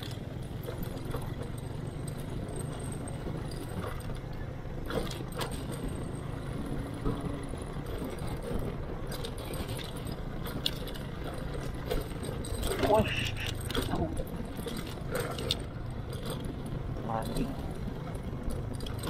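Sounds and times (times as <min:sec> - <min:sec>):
motorcycle engine running: 0:00.0 - 0:19.0
rattles and clicks: 0:00.0 - 0:19.0.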